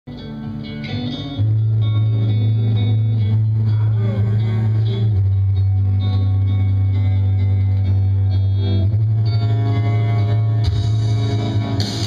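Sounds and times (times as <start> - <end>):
rock music on electric guitar: 0.1 - 12.0
heavy bass note: 1.4 - 12.0.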